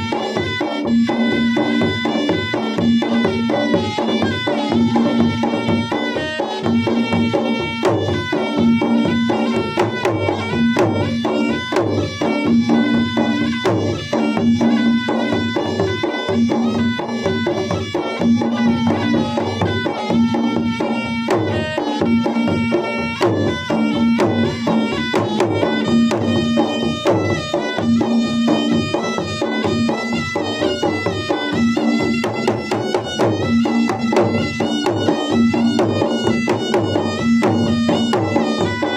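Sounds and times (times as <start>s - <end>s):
continuous melody: 0.0s - 38.9s
drums beating fast rhythm: 0.0s - 38.9s.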